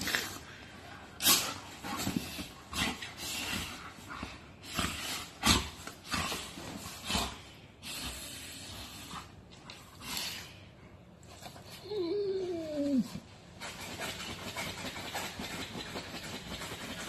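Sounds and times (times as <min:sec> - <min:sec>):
dogs play-growling and huffing: 0:01.2 - 0:10.5, 0:11.1 - 0:17.0.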